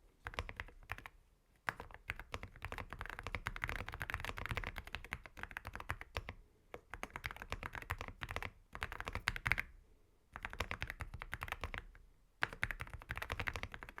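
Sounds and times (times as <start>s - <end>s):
mechanical keyboard typing: 0.2s - 1.1s, 1.7s - 9.7s, 10.4s - 14.0s.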